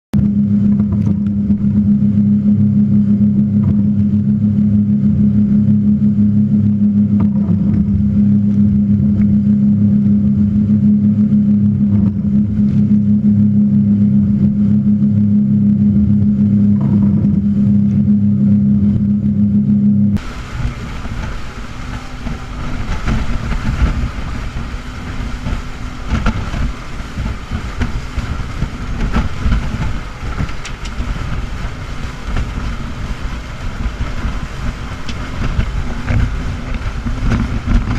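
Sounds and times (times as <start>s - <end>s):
rush of wind and water: 0.1s - 37.9s
speed boat engines droning: 0.2s - 37.9s.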